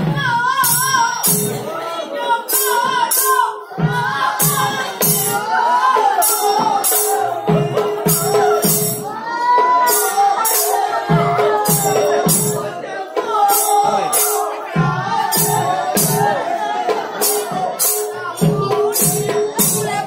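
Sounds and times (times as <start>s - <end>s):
group of voices chanting: 0.0s - 20.0s
hand cymbals clashing: 0.6s - 1.7s, 2.5s - 5.5s, 6.2s - 12.8s, 13.5s - 16.4s, 17.1s - 20.0s.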